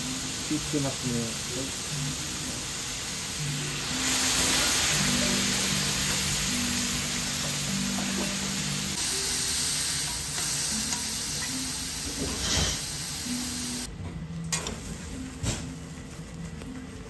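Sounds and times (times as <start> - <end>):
steak sizzling on a griddle: 0.0 - 13.9.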